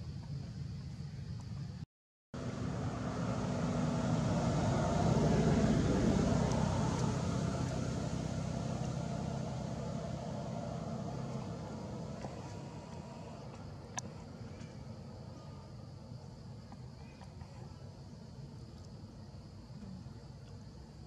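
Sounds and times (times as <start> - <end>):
motor engine humming: 2.4 - 20.8.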